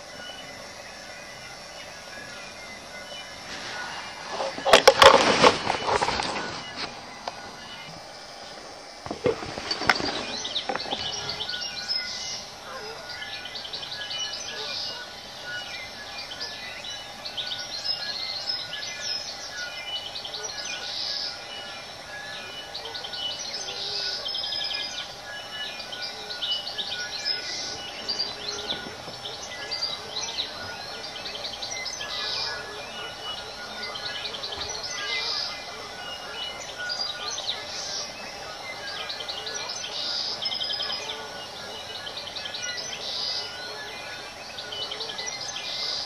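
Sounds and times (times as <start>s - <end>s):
birds singing in chorus: 0.0s - 46.0s.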